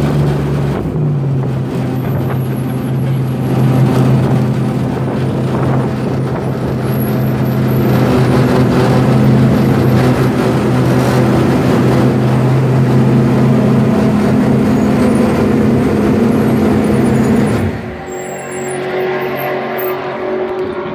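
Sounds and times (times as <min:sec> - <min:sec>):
car engine running: 0:00.0 - 0:20.9
road noise: 0:00.0 - 0:20.9.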